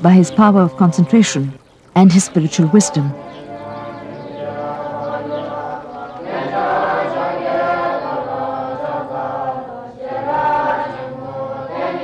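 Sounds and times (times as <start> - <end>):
voices chanting long notes: 0.0 - 12.0.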